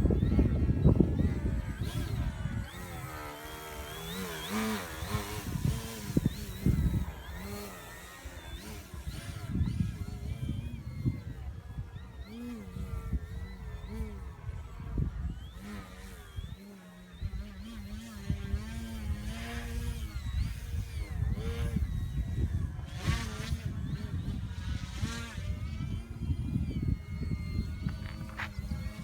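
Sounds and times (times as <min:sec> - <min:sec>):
model plane motor buzzing: 0:00.0 - 0:29.0
wind buffeting microphone: 0:00.0 - 0:29.0.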